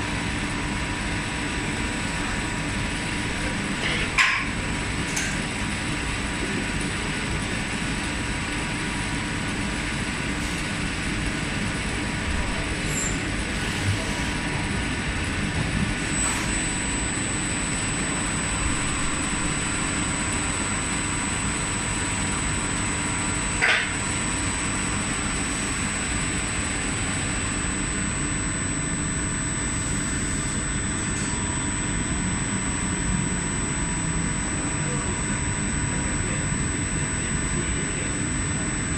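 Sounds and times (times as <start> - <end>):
lathe machine running: 0.0 - 38.9.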